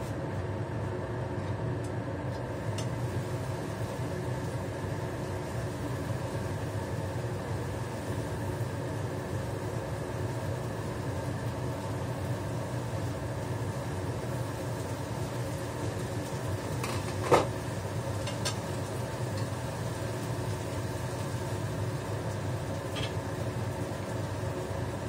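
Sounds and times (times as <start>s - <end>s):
range hood fan humming: 0.0s - 25.0s.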